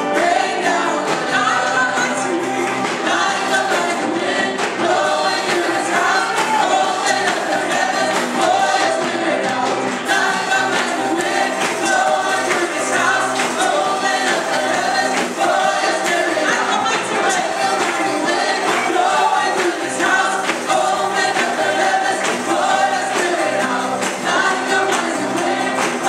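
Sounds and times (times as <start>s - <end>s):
group singing gospel song: 0.0s - 26.0s
instrumental accompaniment: 0.0s - 26.0s
percussion hits: 0.0s - 26.0s.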